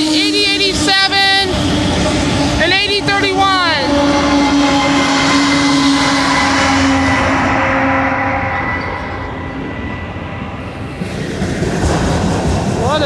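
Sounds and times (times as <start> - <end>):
diesel locomotive engine hum: 0.0 - 13.0
train wheels on rails: 0.0 - 13.0.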